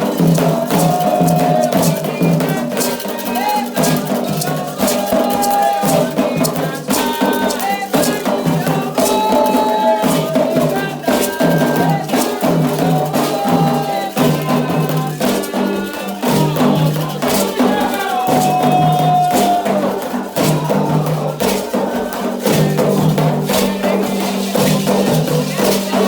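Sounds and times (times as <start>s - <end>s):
drums: 0.0s - 26.0s
shaken rattle: 0.0s - 26.0s
voices singing a chant: 0.0s - 26.0s.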